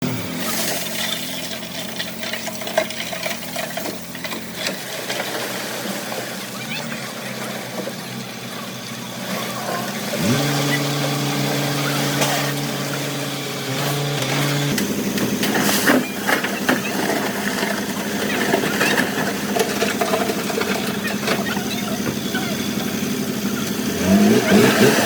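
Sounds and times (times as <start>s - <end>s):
diesel engine revving: 0.0s - 25.0s.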